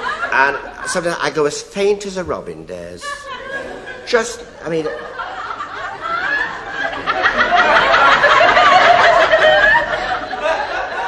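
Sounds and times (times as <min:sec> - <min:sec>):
audience laughing: 0:00.0 - 0:01.2, 0:03.0 - 0:11.0.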